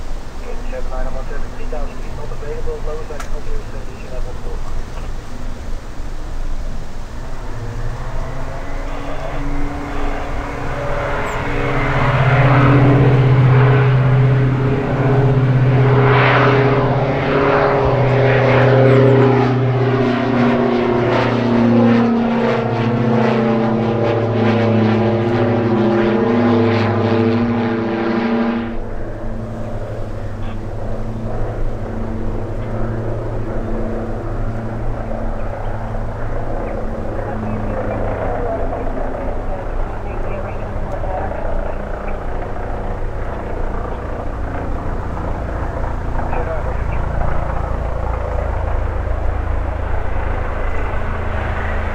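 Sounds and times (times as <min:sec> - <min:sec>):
helicopter hum: 0:00.0 - 0:51.9
propeller plane passing overhead: 0:00.0 - 0:51.9.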